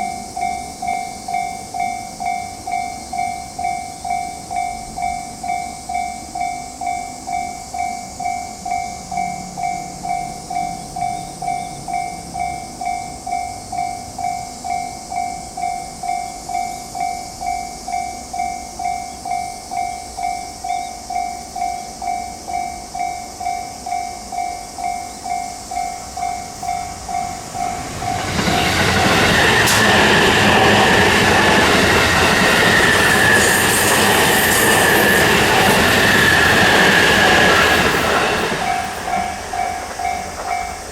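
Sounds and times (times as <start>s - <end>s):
electric train passing: 0.0s - 40.9s.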